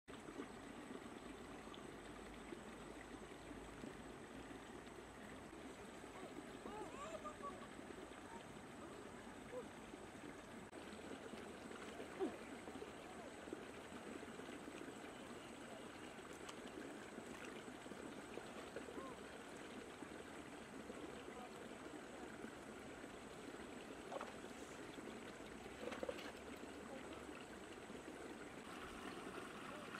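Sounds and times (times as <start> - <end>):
stream babbling over rocks: 0.2 - 29.9.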